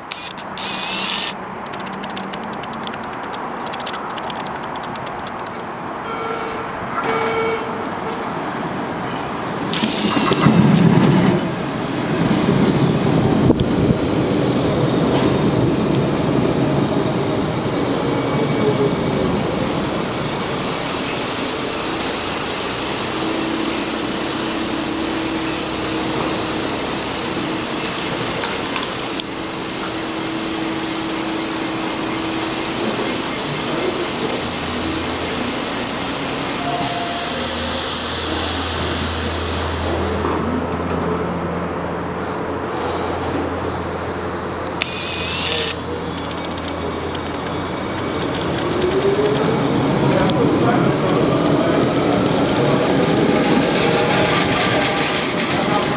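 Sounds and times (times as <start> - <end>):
steady train hiss: 0.0 - 1.6, 9.5 - 40.2, 42.2 - 55.9
subway train pulling in: 0.0 - 55.9.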